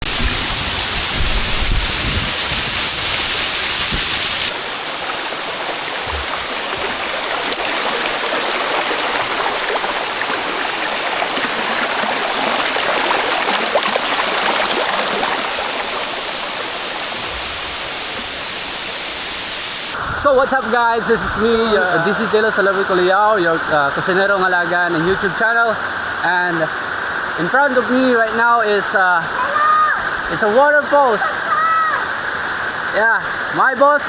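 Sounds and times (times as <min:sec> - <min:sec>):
waterfall rushing water: 0:00.0 - 0:34.0.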